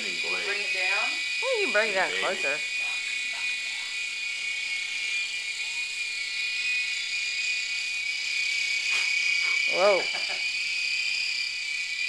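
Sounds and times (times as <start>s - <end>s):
toy helicopter whine: 0.0s - 12.0s.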